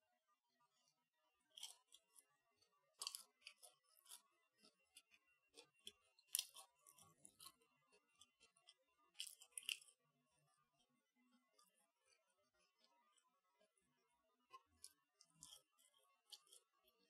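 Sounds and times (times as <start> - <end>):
crisp crackles of chewing: 1.5 - 10.0, 10.8 - 17.0.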